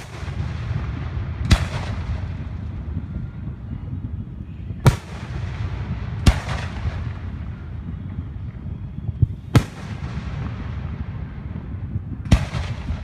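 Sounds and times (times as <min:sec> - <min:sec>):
fireworks bangs: 0:00.0 - 0:04.0, 0:04.8 - 0:08.5, 0:09.2 - 0:13.0
steady low rumble: 0:00.0 - 0:13.0.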